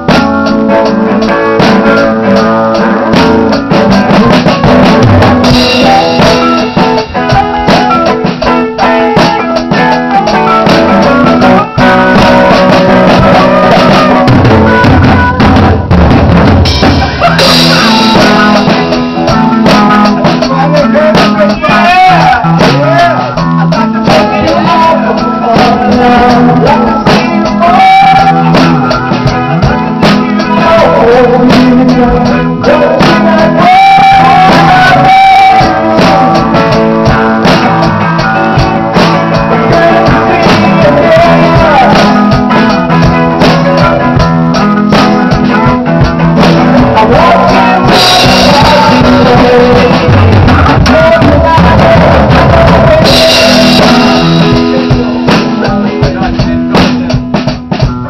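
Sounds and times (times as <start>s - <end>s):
person singing: 0.0s - 15.9s, 16.6s - 58.0s
drum kit: 0.0s - 58.0s
electric guitars: 0.0s - 58.0s.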